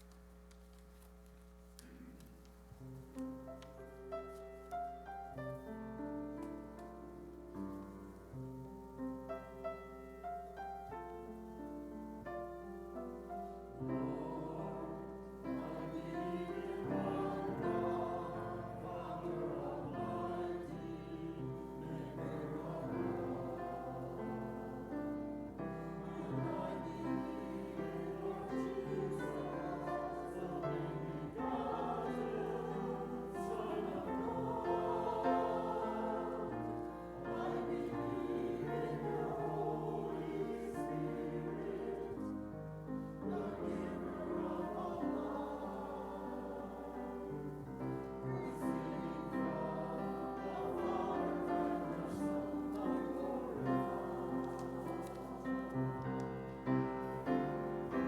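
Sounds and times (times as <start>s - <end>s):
piano accompaniment: 2.8s - 58.0s
choir singing: 9.0s - 58.0s.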